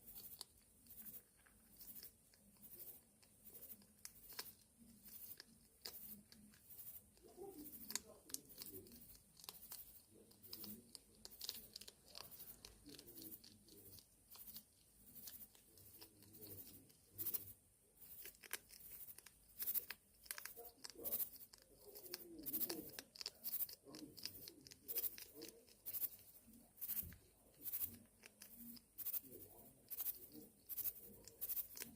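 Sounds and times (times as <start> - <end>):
hedgehogs crackling and crunching: 0.0 - 31.9.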